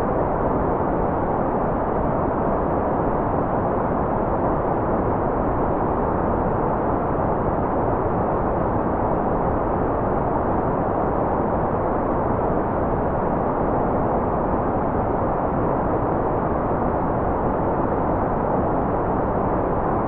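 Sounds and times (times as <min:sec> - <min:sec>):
white noise: 0:00.0 - 0:20.0.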